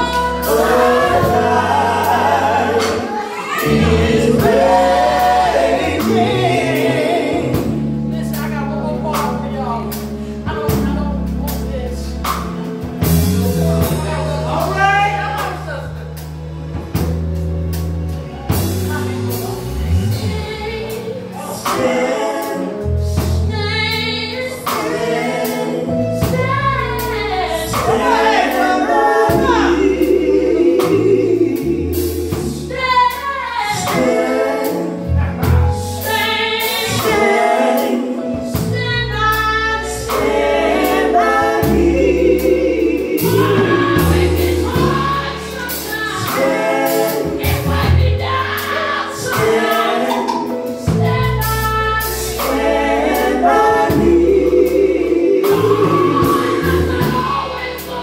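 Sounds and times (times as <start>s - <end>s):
women singing gospel together: 0.0s - 8.8s, 18.9s - 58.0s
moving bass line: 0.0s - 58.0s.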